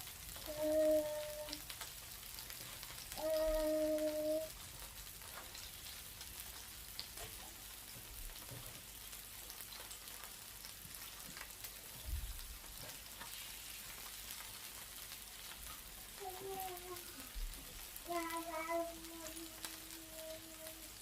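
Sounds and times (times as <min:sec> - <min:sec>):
meat sizzling on a grill: 0:00.0 - 0:21.0.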